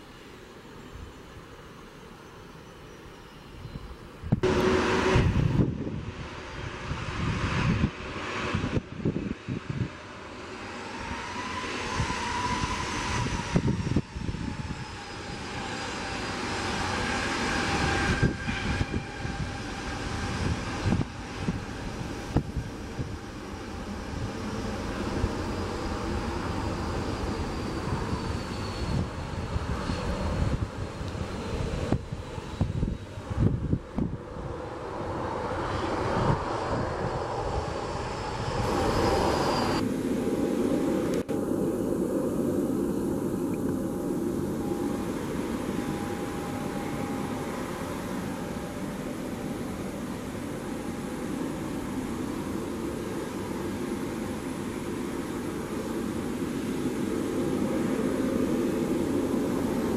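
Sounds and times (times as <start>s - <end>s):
jet engine whine and rush: 0.0s - 59.9s.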